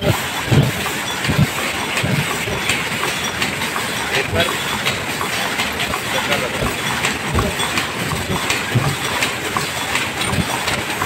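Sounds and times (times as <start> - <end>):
cup forming machine clattering: 0.0 - 11.0.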